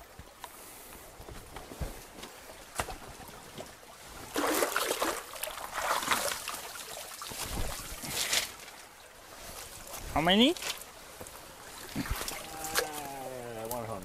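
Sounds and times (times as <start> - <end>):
faint trickle of running water: 0.1 - 14.0.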